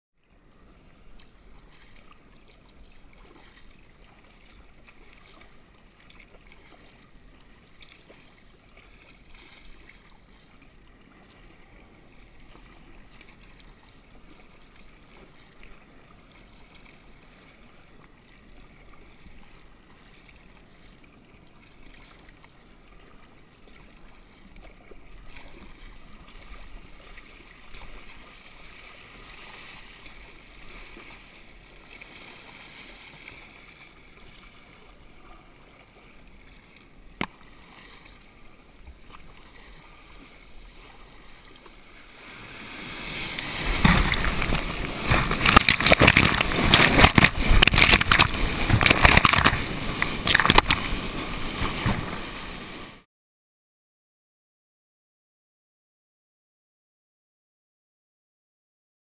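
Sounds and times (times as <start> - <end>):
water rushing along hull: 0.2 - 53.0
paddle blades dipping: 0.4 - 53.0.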